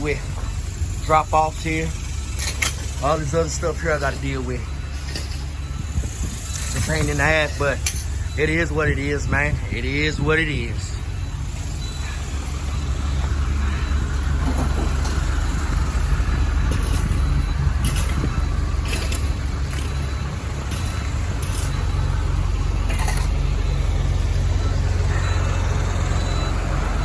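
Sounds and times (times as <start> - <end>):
heavy machine engine rumbling: 0.0 - 27.0.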